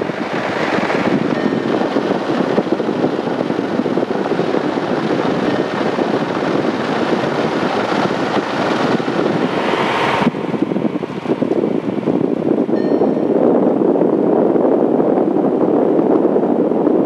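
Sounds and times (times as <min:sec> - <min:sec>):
aircraft piston engine and propeller: 0:00.0 - 0:14.2.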